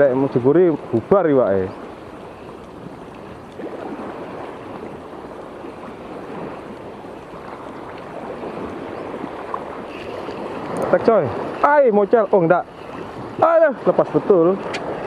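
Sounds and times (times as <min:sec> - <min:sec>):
water lapping: 0:00.0 - 0:15.0.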